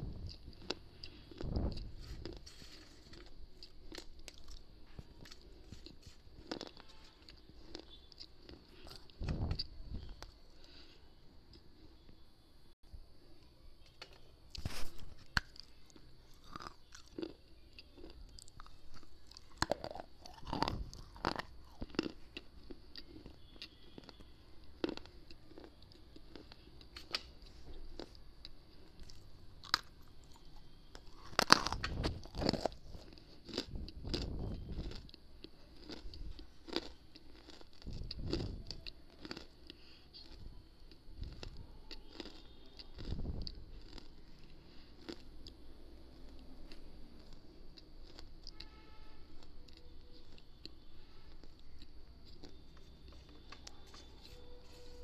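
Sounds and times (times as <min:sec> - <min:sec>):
crisp crunches of chewing: 0:00.0 - 0:11.6, 0:14.0 - 0:55.0.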